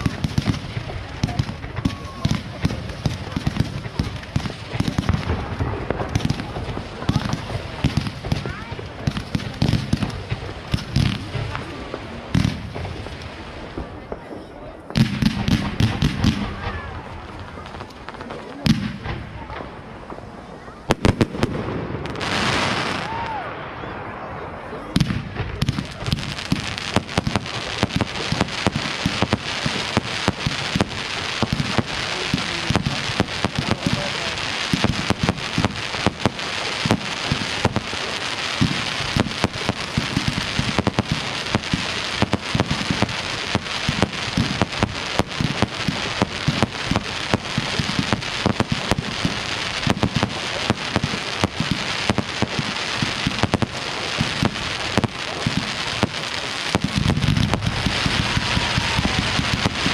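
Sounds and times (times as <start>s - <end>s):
fireworks crackling and popping: 0.0s - 59.9s.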